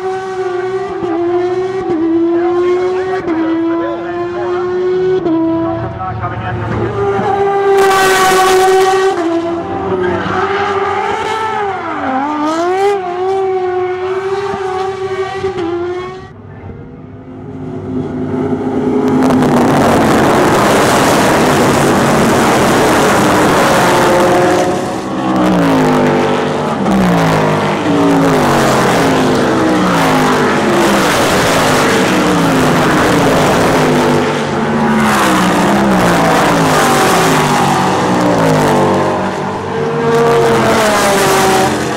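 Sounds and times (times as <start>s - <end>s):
race car engine at high revs: 0.0s - 41.9s
race cars accelerating: 0.0s - 41.9s.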